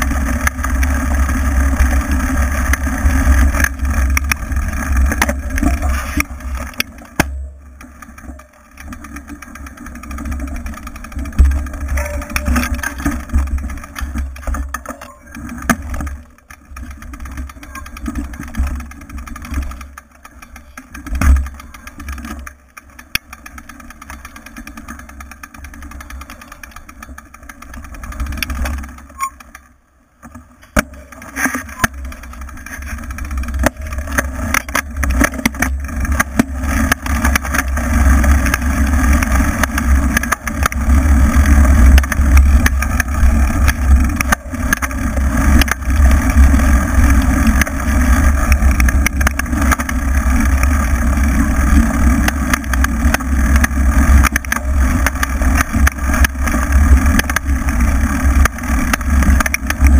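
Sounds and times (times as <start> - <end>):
bike knocks and rattles: 0.0 - 59.9.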